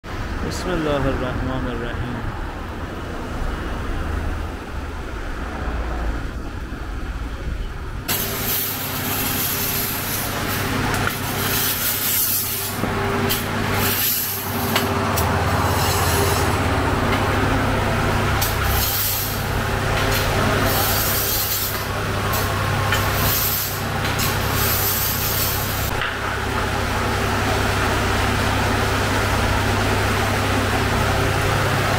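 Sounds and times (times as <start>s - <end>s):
street traffic: 0.0s - 31.9s
steady low hum: 0.1s - 31.9s.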